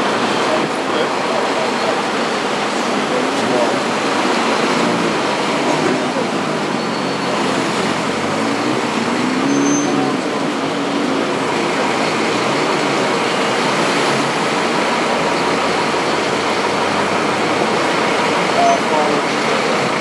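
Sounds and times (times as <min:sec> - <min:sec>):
road traffic noise: 0:00.0 - 0:20.0
vehicle engine revving: 0:00.0 - 0:20.0.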